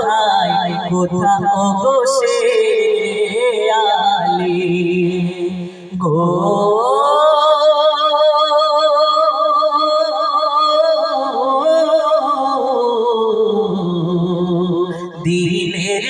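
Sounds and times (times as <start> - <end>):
man singing long vibrato vowel: 0.0 - 16.0.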